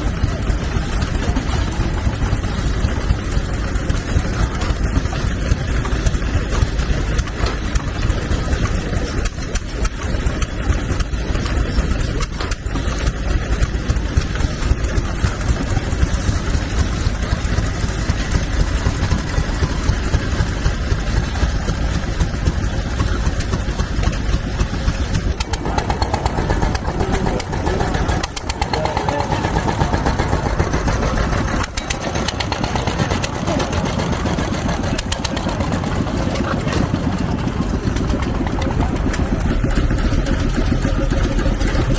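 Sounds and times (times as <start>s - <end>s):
stationary engines running: 0.0s - 41.9s.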